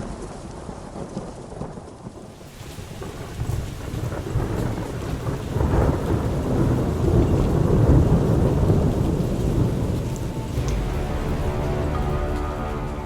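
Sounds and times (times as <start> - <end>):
rain: 0.0 - 13.0
thunder rumbling: 0.0 - 13.0.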